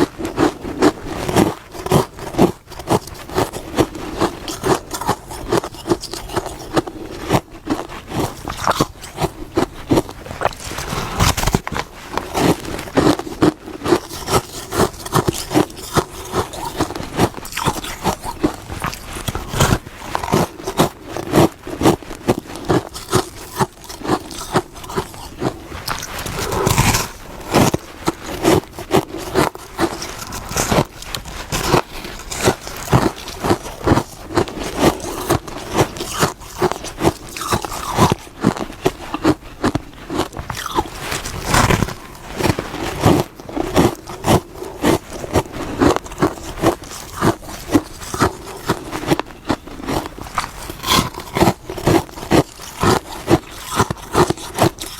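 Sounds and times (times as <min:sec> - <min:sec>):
chewing crunchy frost: 0:00.0 - 0:54.9.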